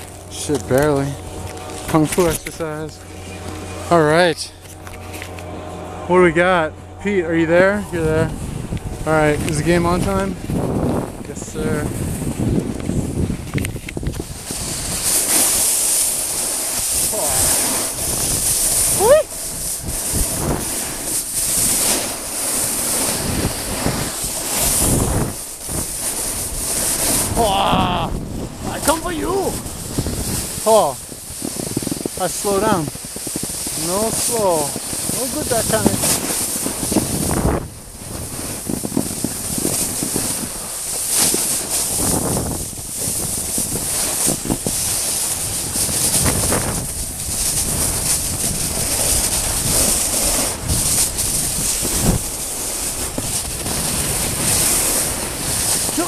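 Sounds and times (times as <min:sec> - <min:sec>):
snowboard scraping over snow: 0:00.0 - 0:56.0
wind buffeting microphone: 0:00.0 - 0:56.0.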